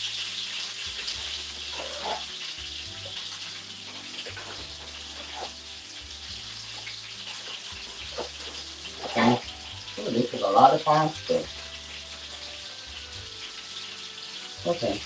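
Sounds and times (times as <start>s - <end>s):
pots and pans hissing on stovetop: 0.0s - 15.0s.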